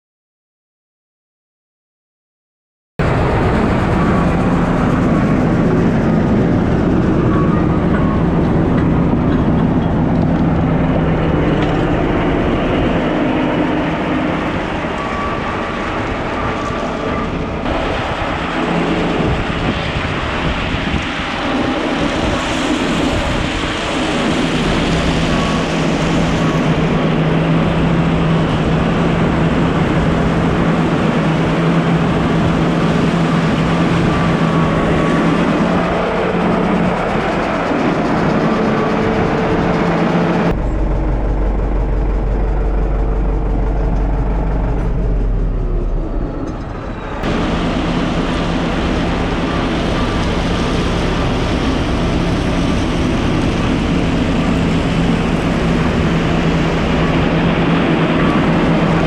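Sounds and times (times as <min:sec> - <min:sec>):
heavy diesel machinery running: 0:03.0 - 0:59.0.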